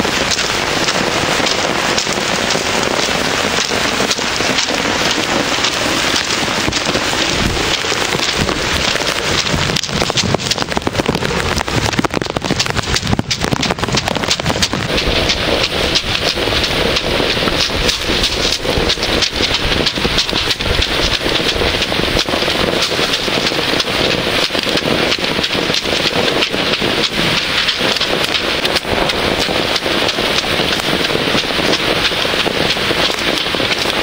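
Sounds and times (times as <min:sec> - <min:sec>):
heavy downpour: 0:00.0 - 0:34.0.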